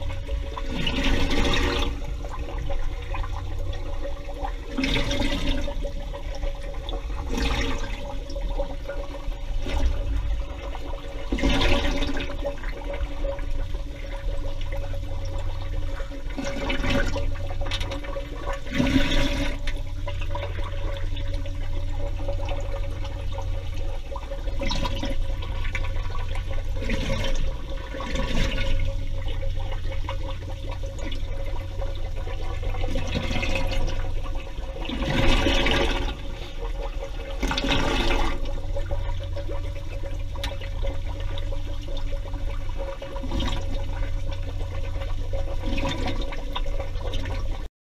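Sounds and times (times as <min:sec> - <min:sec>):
constant hum: 0:00.0 - 0:47.7
regulator bubbles exhaled underwater: 0:00.0 - 0:47.7.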